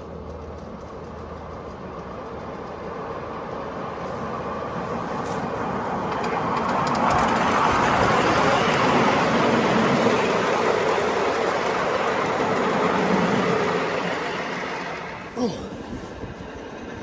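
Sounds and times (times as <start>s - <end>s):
miniature train wheels rumbling on rails: 0.0s - 15.2s.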